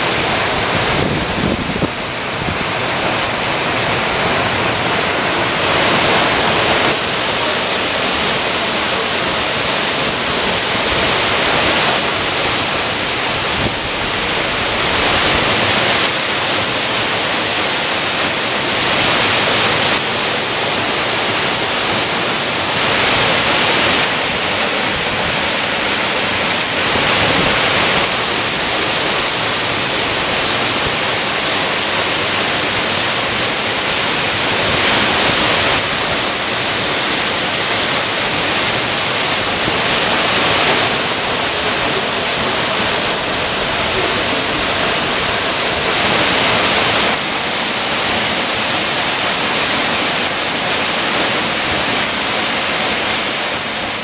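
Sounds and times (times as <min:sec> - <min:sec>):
waterfall rushing onto rock: 0:00.0 - 0:54.0.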